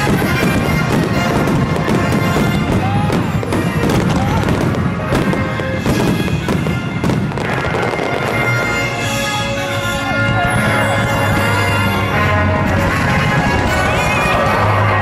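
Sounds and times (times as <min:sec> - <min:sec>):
fireworks bursting and crackling: 0:00.0 - 0:15.0
music with long held notes: 0:00.0 - 0:15.0.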